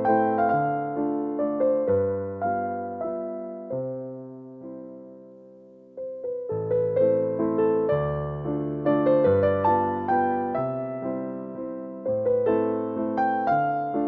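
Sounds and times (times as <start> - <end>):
solo piano waltz: 0.0 - 14.0.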